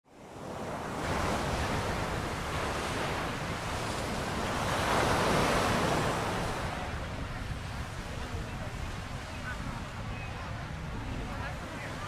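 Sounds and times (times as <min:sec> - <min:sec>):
ocean surf washing onto beach: 0:00.1 - 0:12.0
wind buffeting microphone: 0:00.2 - 0:12.0.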